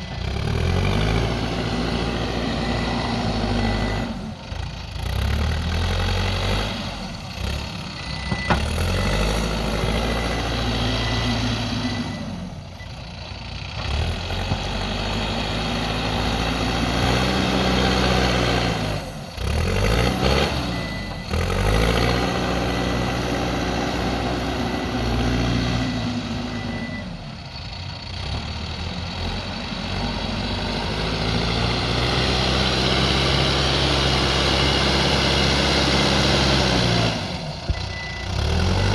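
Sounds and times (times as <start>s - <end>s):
backhoe diesel engine working: 0.0s - 38.9s.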